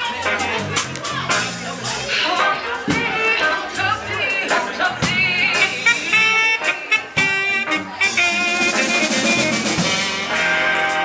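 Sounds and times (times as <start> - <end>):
horns playing: 0.0 - 11.0
steady drum beat: 0.0 - 11.0.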